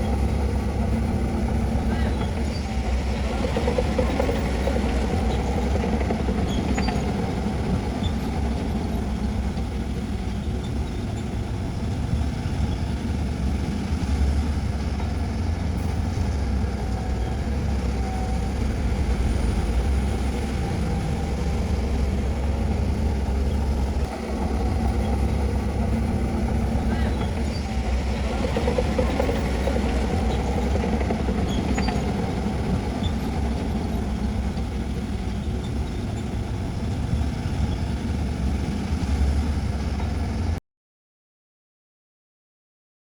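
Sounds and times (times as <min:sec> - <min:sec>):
heavy diesel machinery engine drone: 0:00.0 - 0:40.6.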